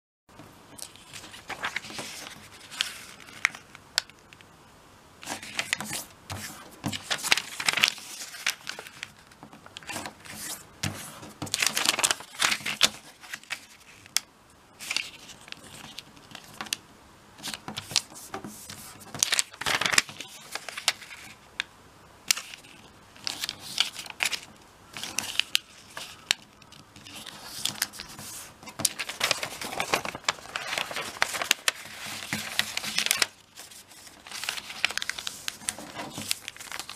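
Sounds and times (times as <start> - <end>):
paper rustling and crinkling: 0.8 - 4.4, 5.2 - 14.2, 14.8 - 16.8, 17.4 - 21.5, 22.3 - 36.9.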